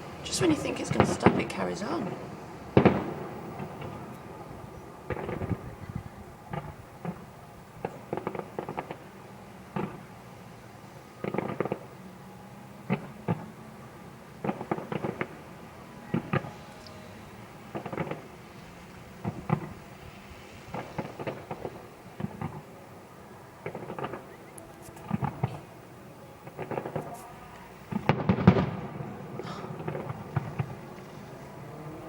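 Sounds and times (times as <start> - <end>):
fireworks bangs and crackles: 0.0 - 12.0, 12.8 - 32.0.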